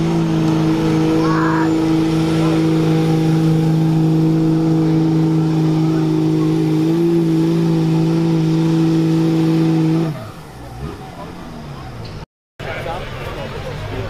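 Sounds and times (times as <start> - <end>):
diesel engine at full throttle: 0.0 - 14.0.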